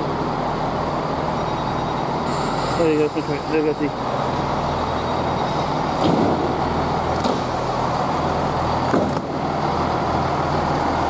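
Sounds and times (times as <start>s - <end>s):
diesel train engines idling: 0.0s - 11.0s.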